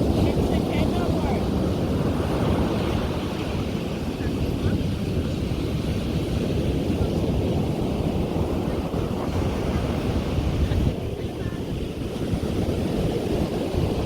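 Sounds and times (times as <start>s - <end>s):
ocean surf on beach: 0.0s - 14.0s
wind rumble on microphone: 0.0s - 14.0s.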